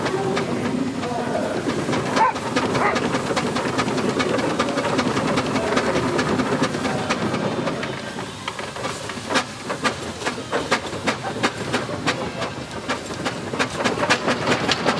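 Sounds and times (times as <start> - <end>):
steam engine exhaust beats: 0.0 - 14.9
steam hissing: 0.0 - 14.9.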